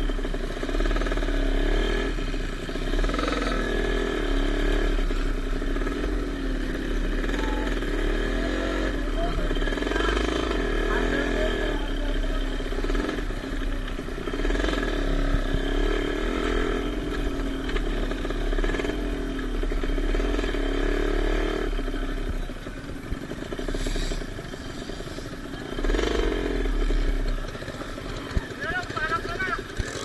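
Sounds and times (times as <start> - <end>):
motocross motorcycles running: 0.0 - 30.0.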